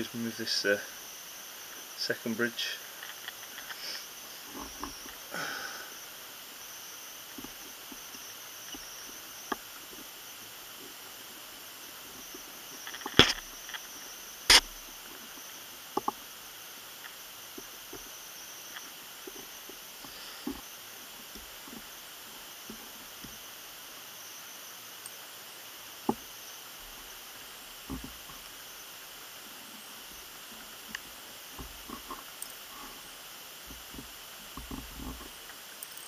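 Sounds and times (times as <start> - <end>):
faint hiss: 0.0 - 36.0.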